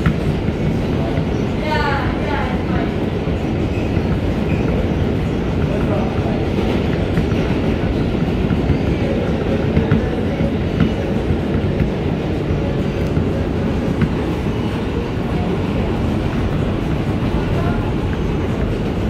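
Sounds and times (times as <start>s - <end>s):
subway wheels rumbling on rail: 0.0s - 19.0s.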